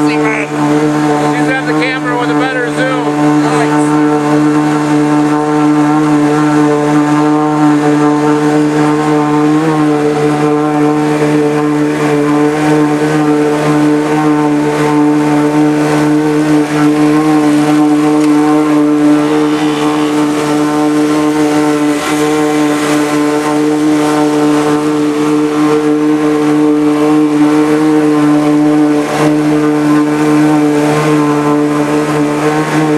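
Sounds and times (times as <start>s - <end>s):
engine droning: 0.0s - 32.9s.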